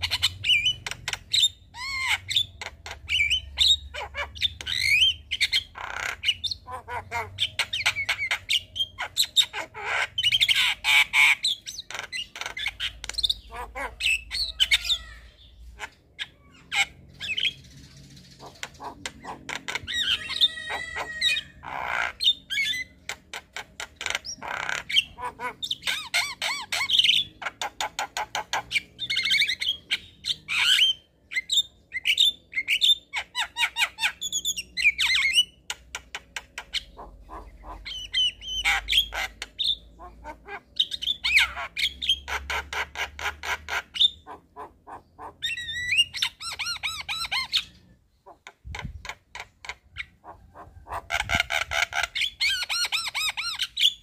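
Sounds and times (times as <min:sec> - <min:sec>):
myna bird singing: 0:00.0 - 0:54.0.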